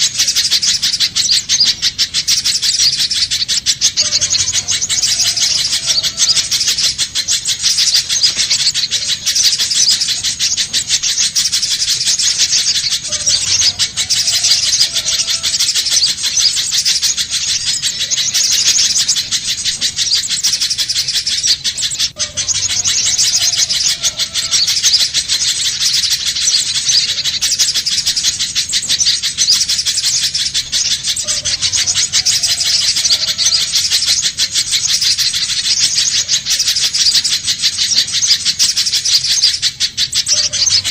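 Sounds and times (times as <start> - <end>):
bird high-pitched chattering: 0.0 - 40.9.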